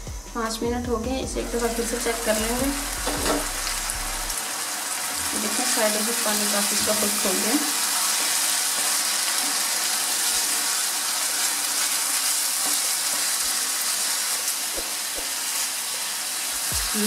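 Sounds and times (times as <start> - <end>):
chicken sizzling in frying pan: 1.6 - 17.0.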